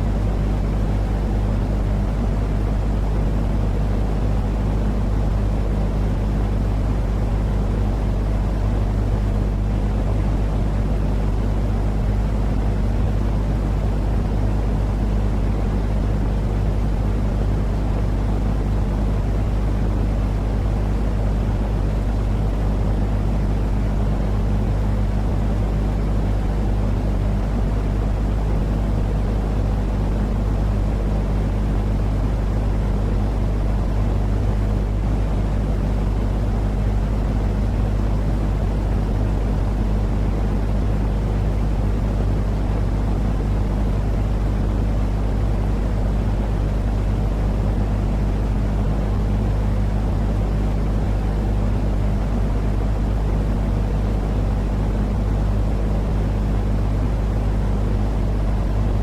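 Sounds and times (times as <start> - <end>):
low rumbling noise with hum: 0.0 - 59.0.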